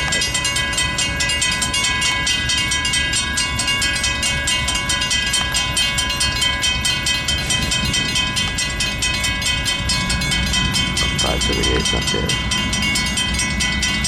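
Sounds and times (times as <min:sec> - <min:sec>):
crossing warning bells ringing: 0:00.0 - 0:14.0
train rumbling: 0:00.0 - 0:14.0.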